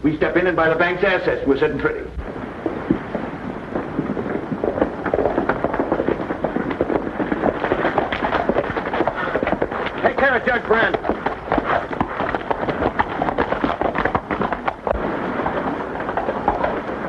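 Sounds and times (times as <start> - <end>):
horses galloping hoofbeats: 0.0 - 17.0.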